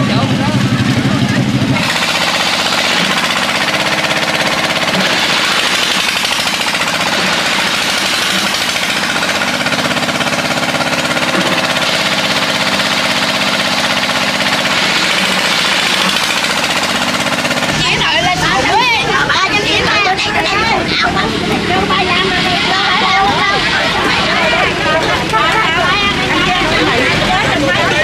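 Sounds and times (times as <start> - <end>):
loud engine running: 0.0 - 28.0.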